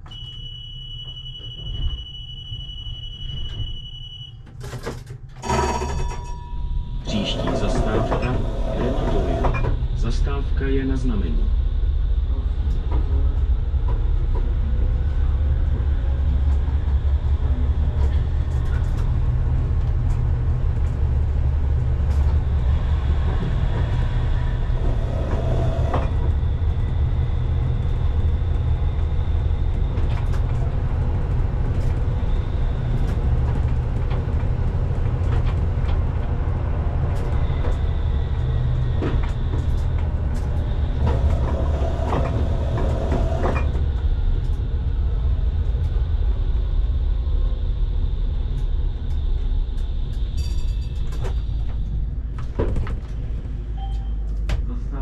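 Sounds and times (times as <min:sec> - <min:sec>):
tram low rumble: 0:00.0 - 0:55.0.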